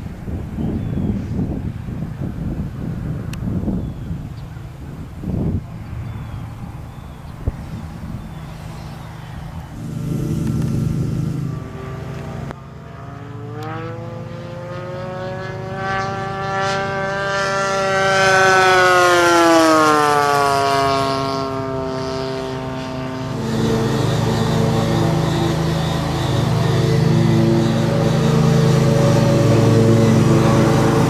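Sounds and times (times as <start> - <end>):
model airplane engine: 0.0 - 31.0.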